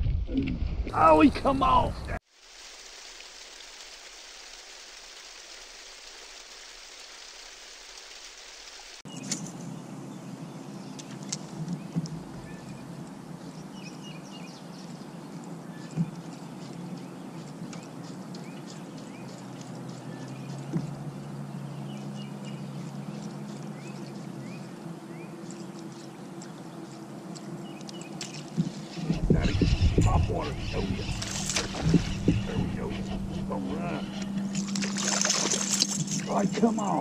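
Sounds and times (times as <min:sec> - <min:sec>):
moving water hum: 0:01.0 - 0:37.0.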